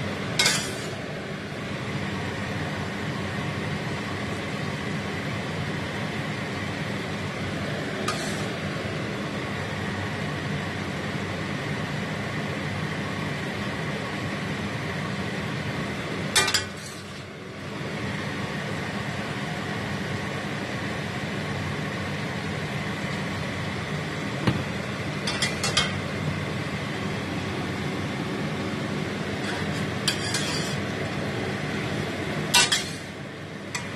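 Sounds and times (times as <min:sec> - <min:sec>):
steady whirring hum: 0:00.0 - 0:33.9.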